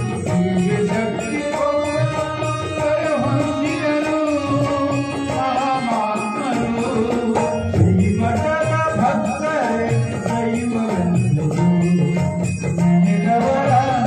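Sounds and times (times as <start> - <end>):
harmonium: 0.0 - 14.0
man singing: 0.0 - 14.0.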